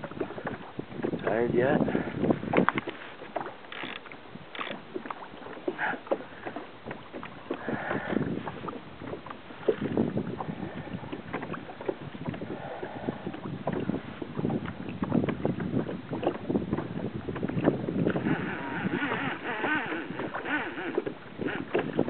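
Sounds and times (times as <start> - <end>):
water splashing against kayak hull: 0.0 - 22.0.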